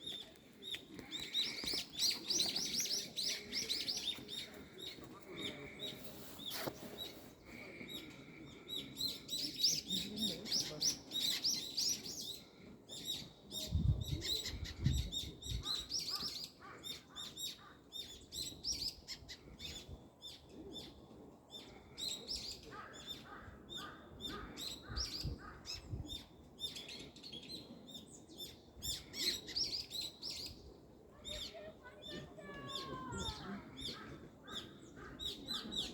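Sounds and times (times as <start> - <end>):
small birds chirping and twittering: 0.0 - 35.9.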